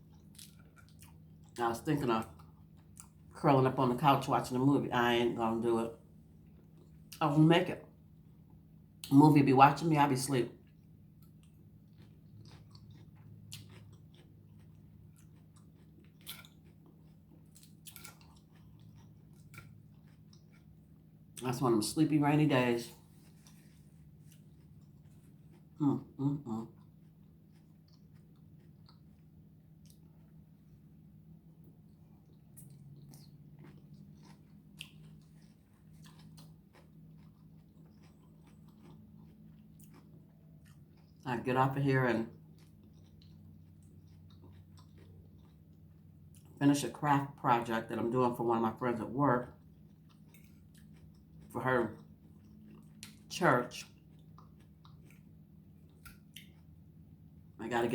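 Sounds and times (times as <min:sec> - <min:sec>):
chewing and biting food: 0:00.0 - 0:04.5, 0:10.5 - 0:21.4, 0:22.8 - 0:46.6, 0:49.0 - 0:57.4
steady low hum: 0:00.0 - 0:57.9.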